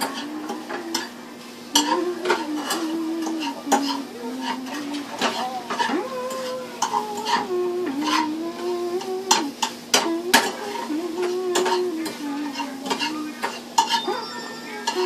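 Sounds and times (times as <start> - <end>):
metal utensil scraping a pan: 0.0 - 1.1, 1.7 - 15.0
light sizzle: 0.0 - 15.0.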